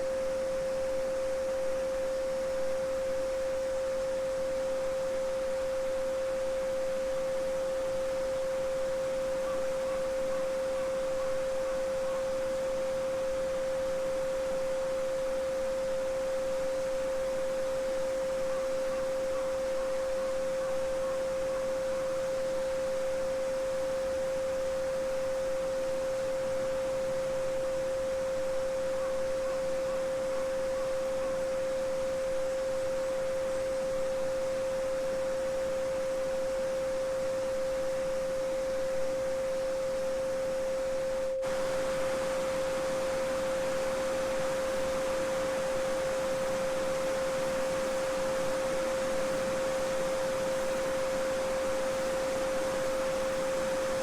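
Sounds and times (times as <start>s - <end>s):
steady sine tone: 0.0s - 54.0s.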